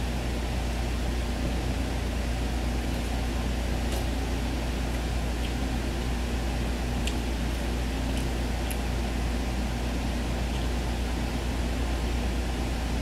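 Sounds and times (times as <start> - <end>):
background hum with hiss: 0.0 - 13.0.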